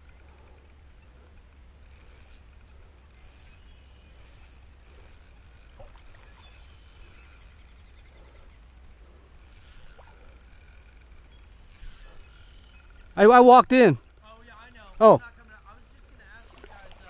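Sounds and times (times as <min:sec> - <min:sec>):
insects chirring: 0:00.0 - 0:17.0
low hum: 0:00.0 - 0:17.0.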